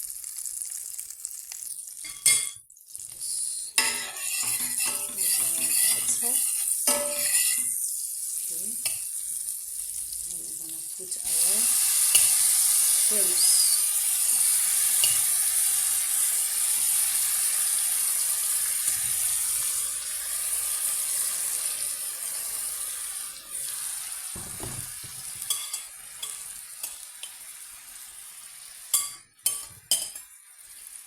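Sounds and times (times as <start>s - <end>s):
shrimps sizzling in butter: 0.0s - 31.0s.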